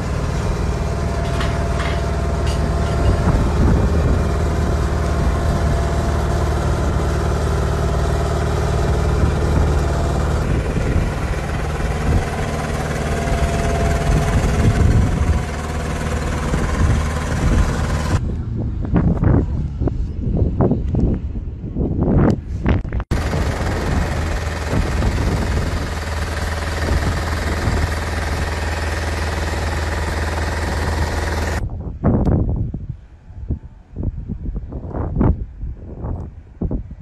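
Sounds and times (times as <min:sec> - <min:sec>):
engine running with low hum: 0:00.0 - 0:37.0.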